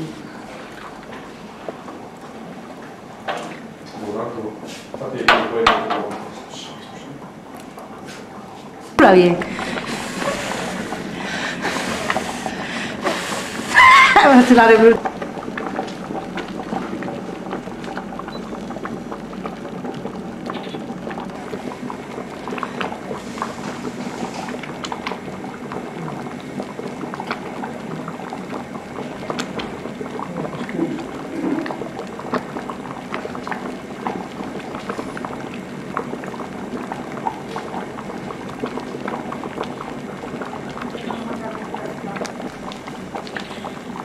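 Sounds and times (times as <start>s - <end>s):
pot boiling with small pops: 0.0s - 44.0s.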